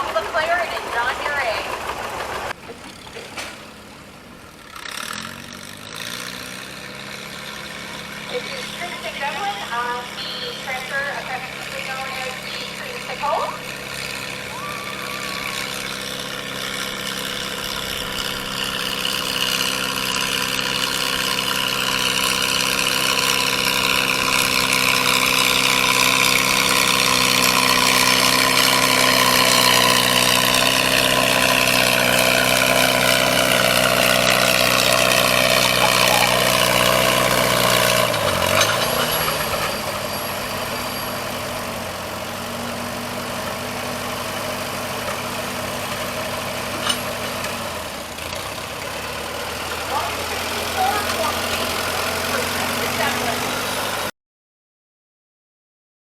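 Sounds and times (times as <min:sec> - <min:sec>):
tractor engine running under load: 0:00.0 - 0:54.1.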